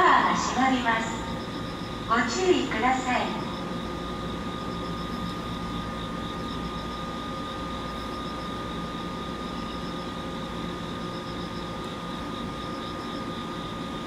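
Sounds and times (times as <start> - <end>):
electric train humming: 0.0 - 14.0
faint pulsing high chirp: 0.0 - 14.0.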